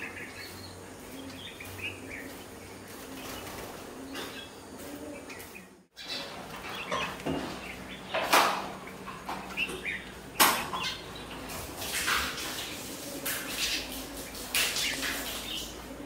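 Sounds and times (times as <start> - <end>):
wings fluttering: 0.0 - 16.0.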